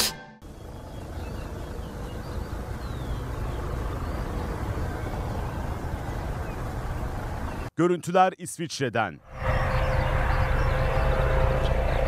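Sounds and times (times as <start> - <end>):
jet engines rumbling: 0.5 - 7.7, 9.3 - 12.0.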